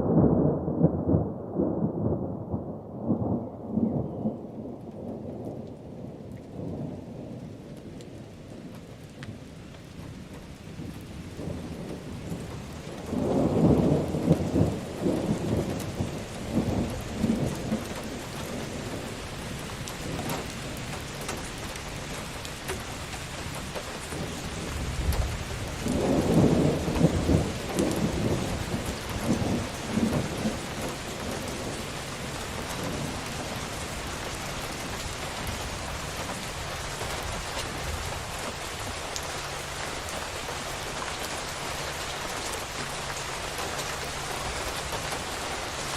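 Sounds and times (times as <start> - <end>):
rain on a roof: 0.0 - 45.9
thunder rumbling: 0.0 - 45.9.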